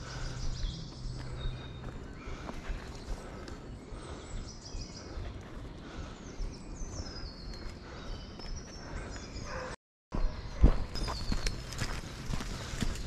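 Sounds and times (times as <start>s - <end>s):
birds singing: 0.0s - 13.0s
outdoor background noise: 0.0s - 13.0s.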